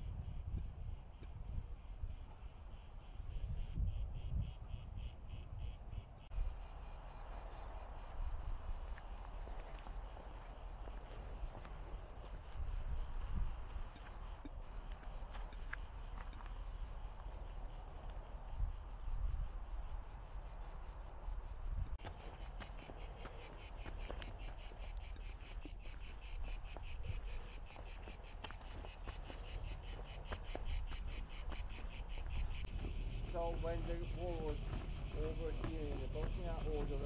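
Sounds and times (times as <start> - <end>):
cicadas buzzing: 0.0 - 37.0.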